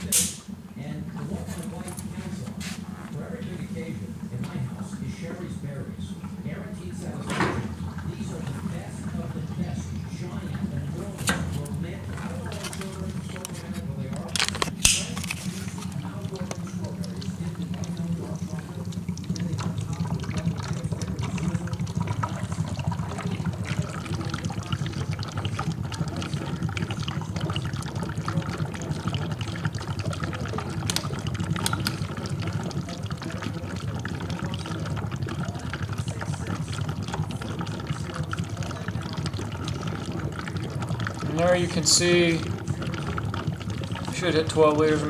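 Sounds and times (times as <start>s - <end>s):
low steady hum: 0.0s - 45.0s
water bubbling and crackling: 0.0s - 45.0s.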